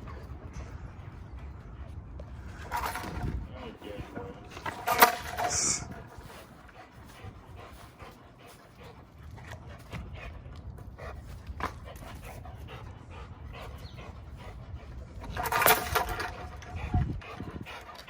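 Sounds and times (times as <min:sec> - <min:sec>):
dog panting hard: 0:00.0 - 0:18.0.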